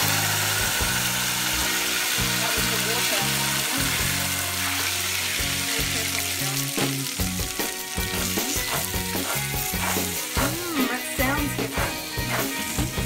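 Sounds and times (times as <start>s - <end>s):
almonds sizzling in hot oil: 0.0s - 13.0s.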